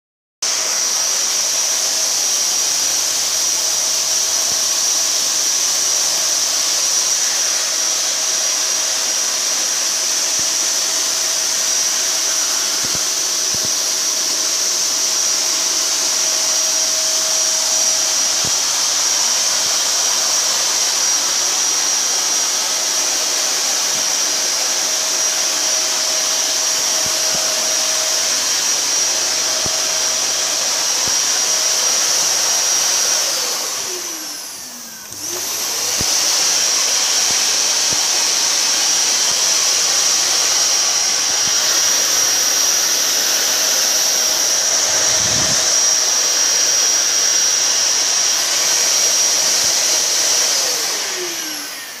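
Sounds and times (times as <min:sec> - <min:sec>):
vacuum cleaner running: 0:00.4 - 0:52.0.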